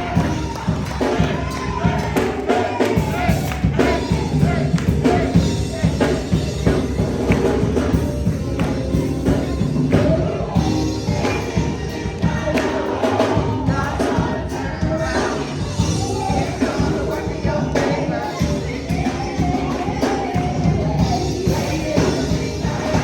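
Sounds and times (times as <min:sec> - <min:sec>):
drums: 0:00.0 - 0:23.0
voices singing gospel: 0:00.0 - 0:23.0.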